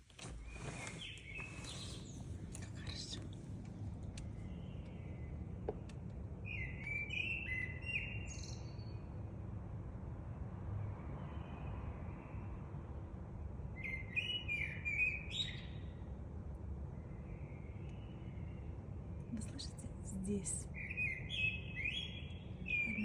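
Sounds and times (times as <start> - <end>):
low rumble of wind: 0.0 - 23.0.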